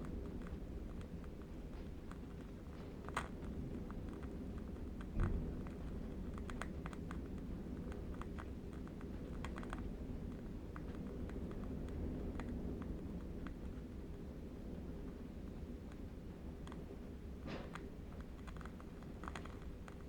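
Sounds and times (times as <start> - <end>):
faint crackles and clicks: 0.0 - 20.0.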